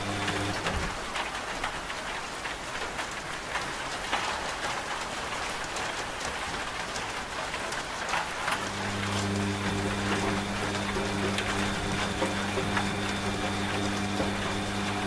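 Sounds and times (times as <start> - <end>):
rain pattering on a surface: 0.0 - 15.0.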